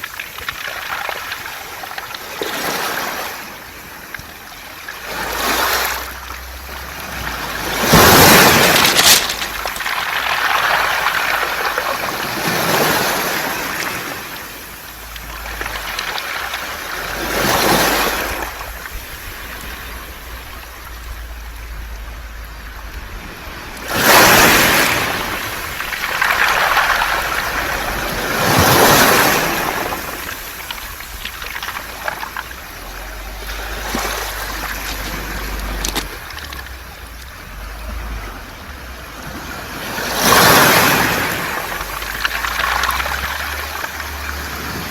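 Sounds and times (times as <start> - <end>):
waves washing over pebbles: 0.0 - 44.9.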